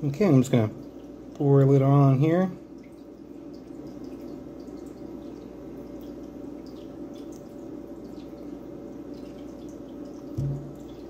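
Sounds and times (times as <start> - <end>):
dressing dripping: 0.0 - 11.0
low room hum: 0.0 - 11.0.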